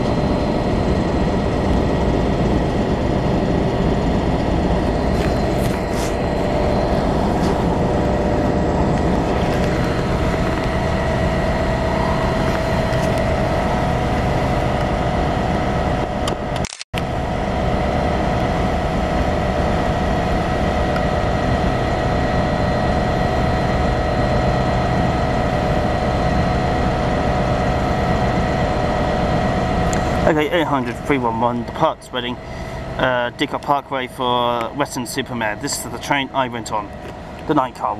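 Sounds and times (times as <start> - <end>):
constant whine: 0.0 - 37.9
train mechanical hum: 0.0 - 37.9.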